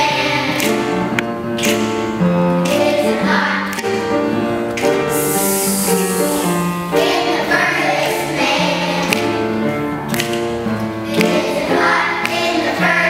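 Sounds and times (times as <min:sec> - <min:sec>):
children's choir singing: 0:00.0 - 0:09.8, 0:10.8 - 0:13.0
instrumental accompaniment: 0:00.0 - 0:13.0.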